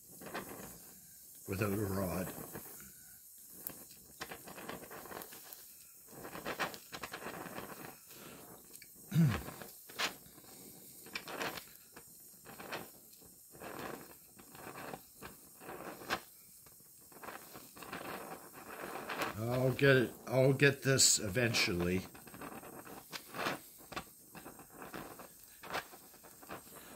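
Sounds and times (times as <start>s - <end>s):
welding torch crackling and spitting: 0.0s - 26.9s.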